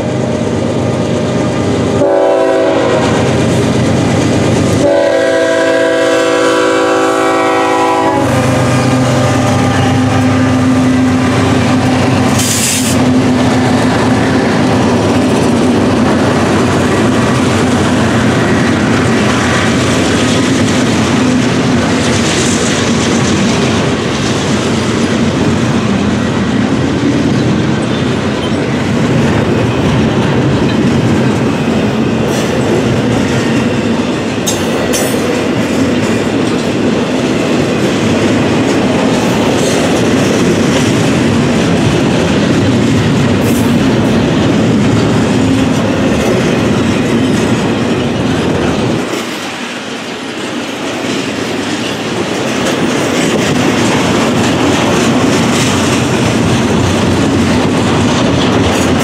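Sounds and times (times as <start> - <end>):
freight train wheels clattering: 0.0 - 59.0.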